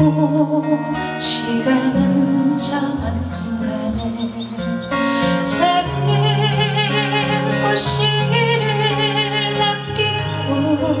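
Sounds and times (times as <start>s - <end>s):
acoustic guitar chords: 0.0s - 11.0s
woman singing: 0.0s - 11.0s.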